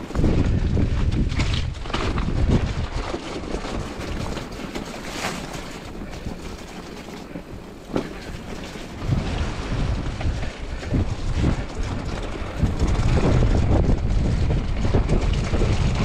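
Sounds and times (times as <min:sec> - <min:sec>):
bike rattling over rocky trail: 0:00.0 - 0:16.0
wind rumble on microphone: 0:00.0 - 0:16.0.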